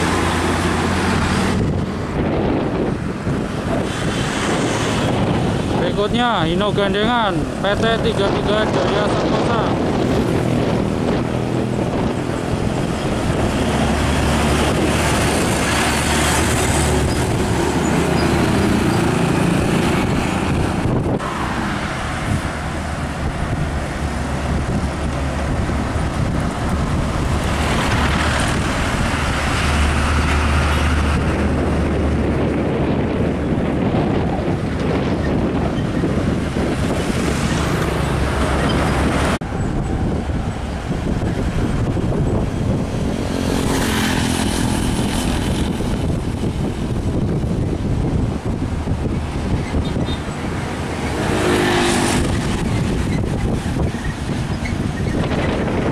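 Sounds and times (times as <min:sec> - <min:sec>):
truck engine hum: 0:00.0 - 0:55.9
tyre and traffic noise: 0:00.0 - 0:55.9.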